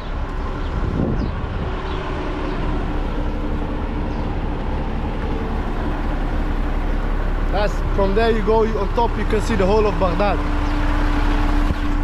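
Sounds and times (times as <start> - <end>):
engine rumbling: 0.0 - 12.0
steady hum: 0.0 - 12.0.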